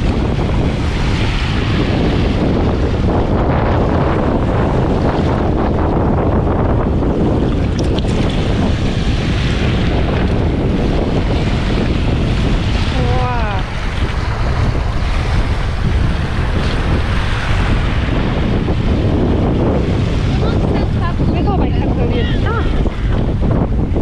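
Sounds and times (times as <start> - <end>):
waves washing over pebbles: 0.0 - 24.0
wind buffeting microphone: 0.0 - 24.0.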